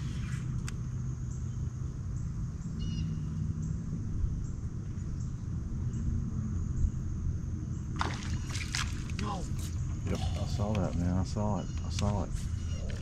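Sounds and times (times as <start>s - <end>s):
bird chirp: 0.0s - 13.0s.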